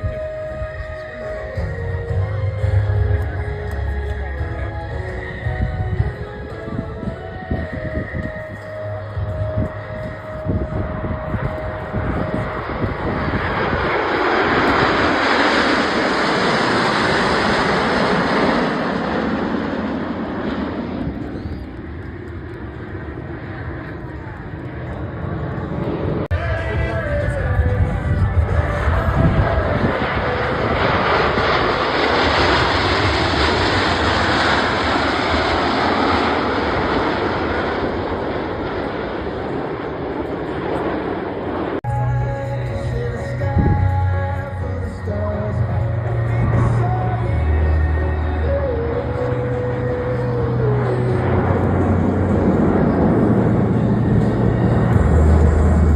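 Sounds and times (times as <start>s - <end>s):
jets passing overhead: 0.0s - 55.9s.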